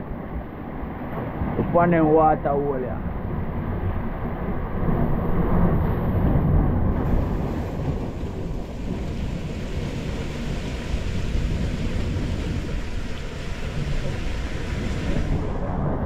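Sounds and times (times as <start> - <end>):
sea surf: 0.0 - 16.0
wind buffeting microphone: 2.8 - 16.0.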